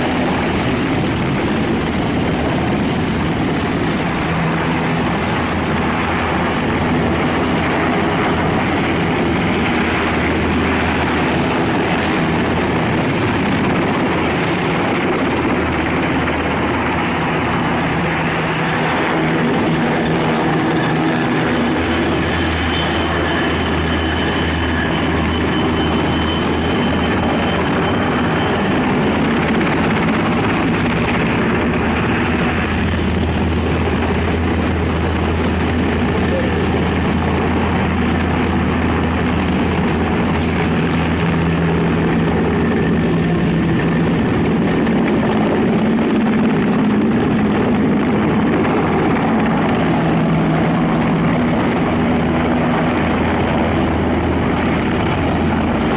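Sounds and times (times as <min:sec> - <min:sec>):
helicopter flying overhead: 0:00.0 - 0:55.9.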